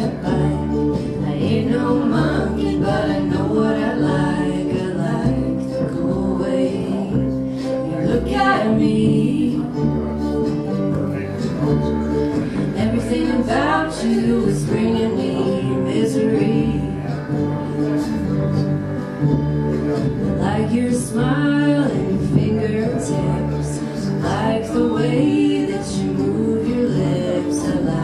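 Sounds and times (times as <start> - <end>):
person singing: 0.0 - 18.4, 20.0 - 28.0
strummed acoustic guitar: 0.0 - 28.0
upright bass: 0.0 - 28.0.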